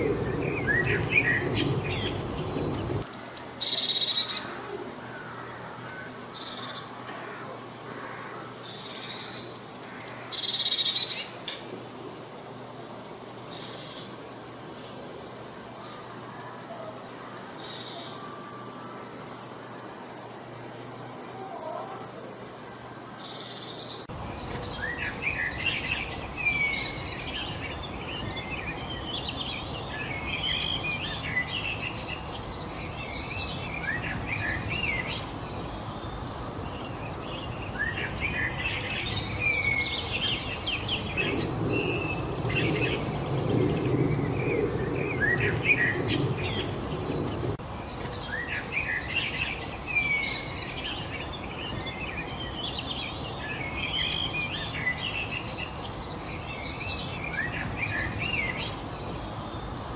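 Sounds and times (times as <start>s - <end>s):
background hiss: 0.0s - 59.9s
songbirds chirping and trilling: 0.0s - 59.9s.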